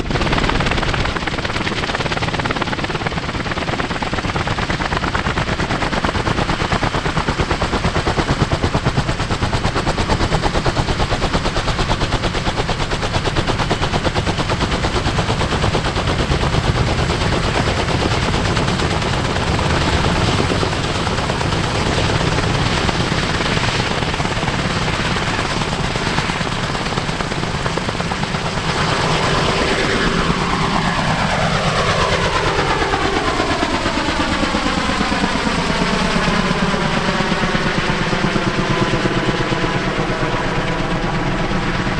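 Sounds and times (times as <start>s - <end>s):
helicopter rotors chopping: 0.0s - 41.9s
turbine engine whine: 0.0s - 41.9s.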